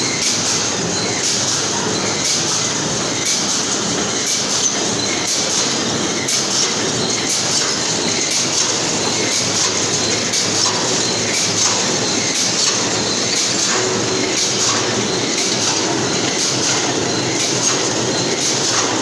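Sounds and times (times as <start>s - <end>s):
welding machine clattering: 0.0s - 19.0s.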